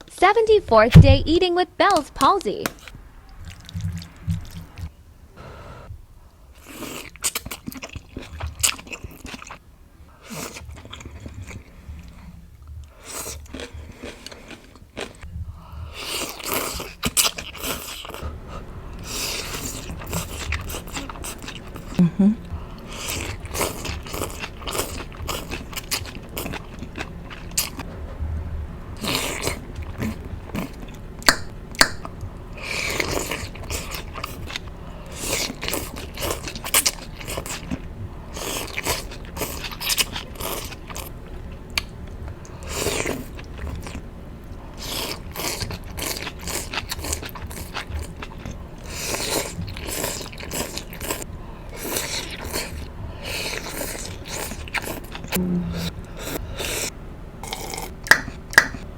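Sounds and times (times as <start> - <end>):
noodles being chewed: 1.9 - 4.9, 6.6 - 9.6, 10.2 - 15.3, 15.9 - 18.3, 18.9 - 27.8, 29.0 - 55.4.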